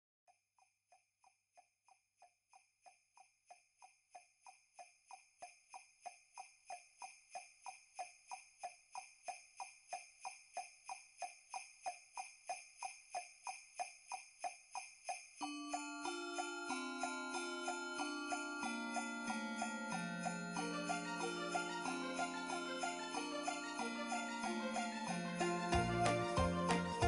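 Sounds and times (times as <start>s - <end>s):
sleigh bells shaken: 3.5s - 27.0s.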